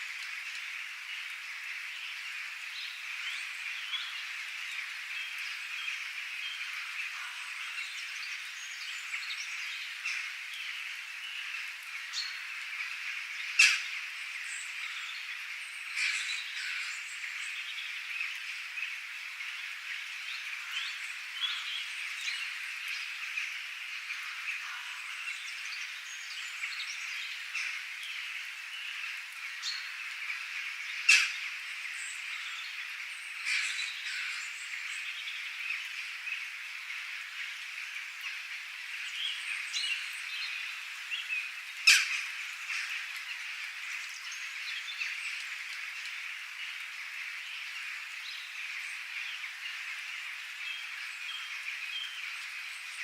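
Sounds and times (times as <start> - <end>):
chorus of calling frogs: 0.2 - 53.0.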